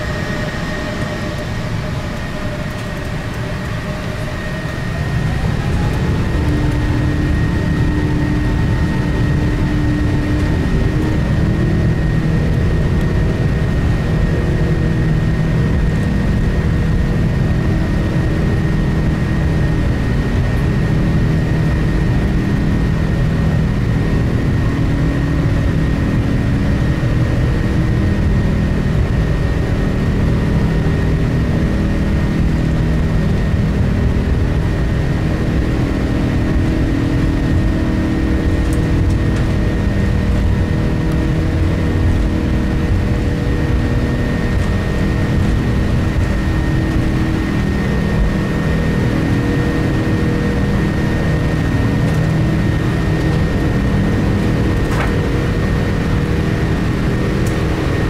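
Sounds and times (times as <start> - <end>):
loud engine and airflow rumble: 0.0 - 58.0.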